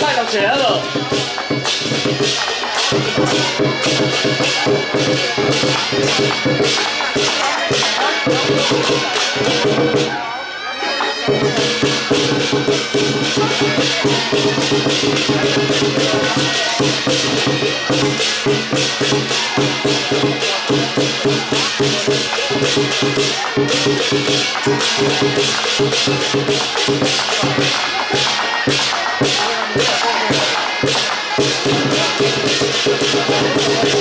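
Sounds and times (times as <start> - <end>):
crashing cymbals: 0.0 - 10.2, 11.0 - 34.0
large drum beating: 0.0 - 10.2, 11.3 - 34.0.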